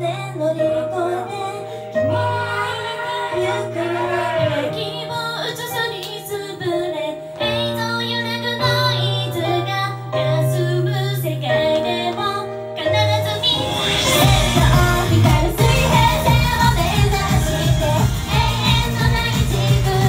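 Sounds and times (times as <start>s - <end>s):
women singing over pop backing track: 0.0s - 20.0s.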